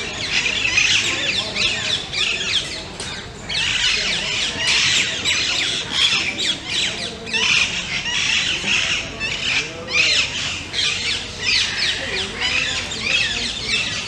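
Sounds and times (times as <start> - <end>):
birds squawking and chattering: 0.0 - 14.0.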